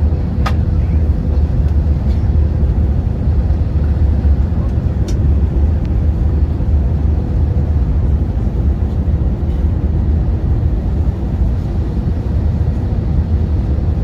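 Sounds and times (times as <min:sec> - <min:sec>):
airliner engines rumbling in cabin: 0:00.0 - 0:14.0.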